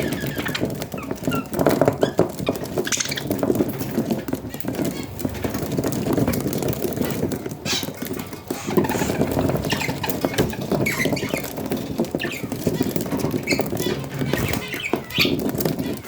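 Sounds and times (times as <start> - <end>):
budgies scratching and rustling: 0.0 - 16.0.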